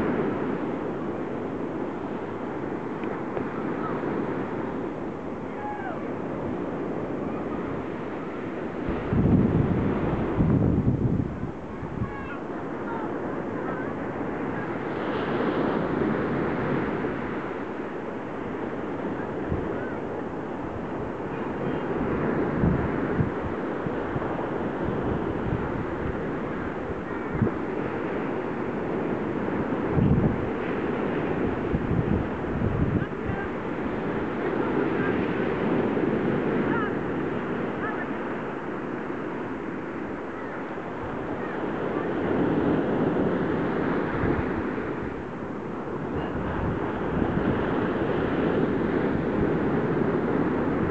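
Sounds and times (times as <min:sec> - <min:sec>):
sea waves breaking on beach: 0:00.0 - 0:50.9
wind buffeting microphone: 0:00.0 - 0:50.9.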